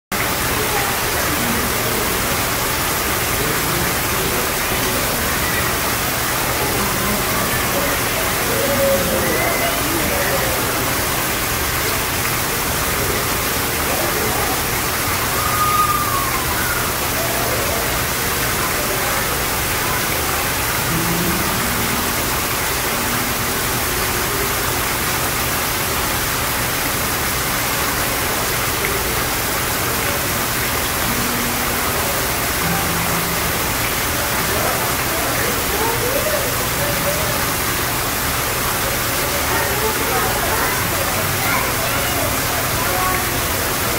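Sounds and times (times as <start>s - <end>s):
small waterfall splashing into pond: 0.1s - 43.9s.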